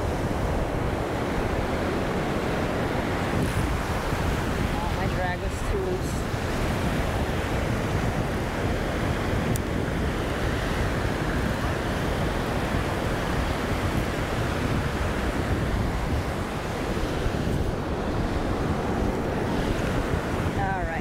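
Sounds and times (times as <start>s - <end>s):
ocean waves breaking: 0.0s - 21.0s
wind buffeting microphone: 0.0s - 21.0s.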